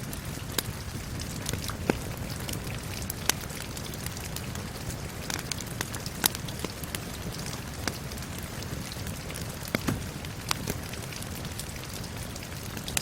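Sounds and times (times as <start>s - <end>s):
steady rain: 0.0s - 13.0s
wood fire crackling and popping: 0.0s - 13.0s.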